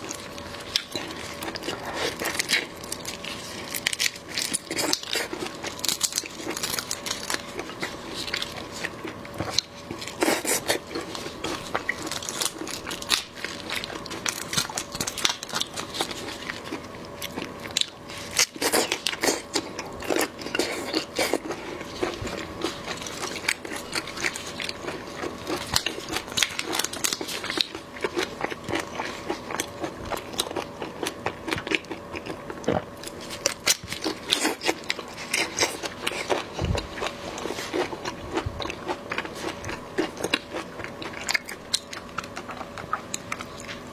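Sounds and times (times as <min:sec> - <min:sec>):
wet chewing and lip smacks: 0:00.6 - 0:43.8.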